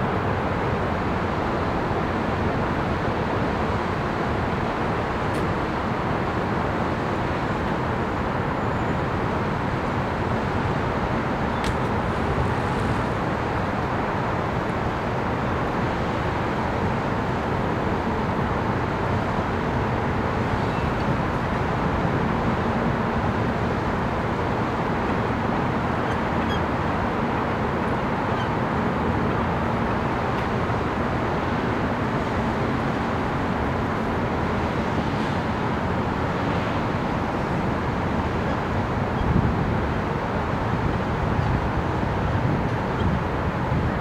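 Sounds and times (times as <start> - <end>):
road traffic noise: 0.0 - 44.0.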